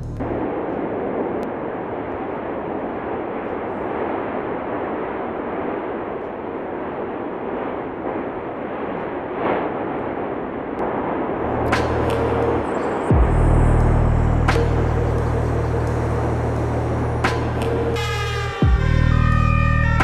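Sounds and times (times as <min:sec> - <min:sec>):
volcano eruption rushing noise: 0:00.2 - 0:18.5.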